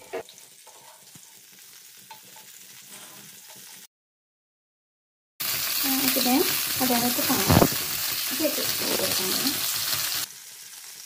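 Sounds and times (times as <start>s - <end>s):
butter sizzling in frying pan: 0.2s - 3.9s, 5.4s - 11.0s.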